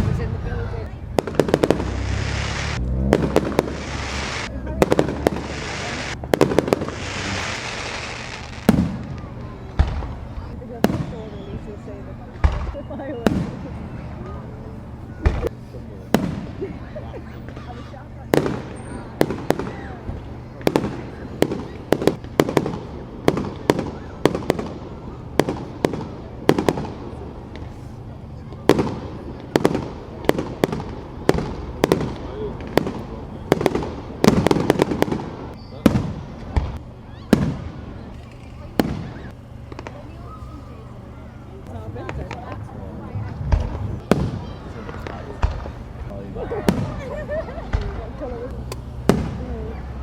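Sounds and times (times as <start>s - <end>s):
fireworks bangs: 0.0s - 50.0s
fireworks crackling: 0.0s - 50.0s.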